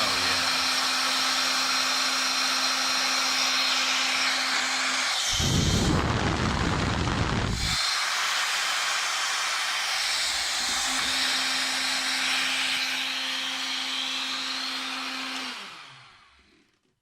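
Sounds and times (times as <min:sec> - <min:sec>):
electric air pump blowing and humming: 0:00.0 - 0:16.8.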